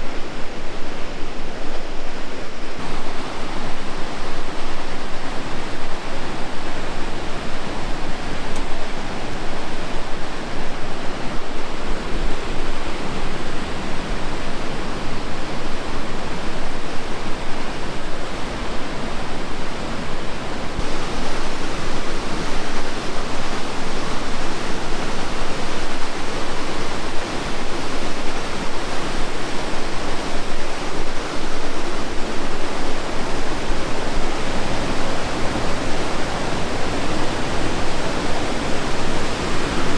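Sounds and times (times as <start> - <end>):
rush of falling water: 0.0 - 39.9.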